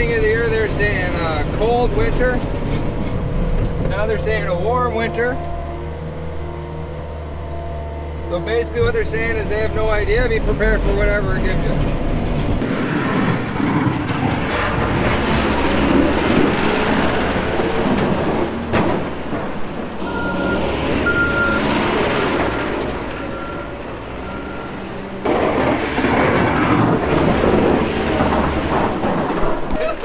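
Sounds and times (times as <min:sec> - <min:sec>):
diesel engine working hard: 0:00.0 - 0:30.0.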